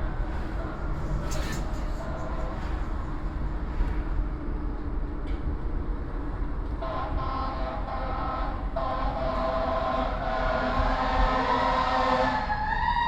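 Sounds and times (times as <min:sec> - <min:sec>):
street traffic: 0:00.0 - 0:12.3
elevated train rumble: 0:00.0 - 0:13.0.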